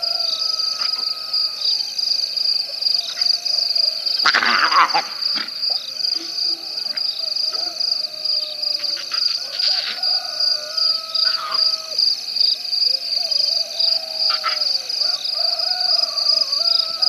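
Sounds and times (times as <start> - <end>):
frogs calling: 0.0 - 17.0
high pulsing insect chirr: 0.0 - 17.0.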